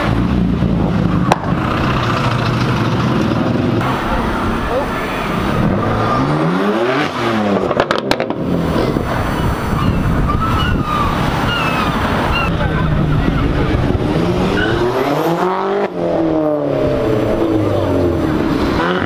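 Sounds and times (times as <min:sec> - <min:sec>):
sports car engines revving: 0:00.0 - 0:19.0.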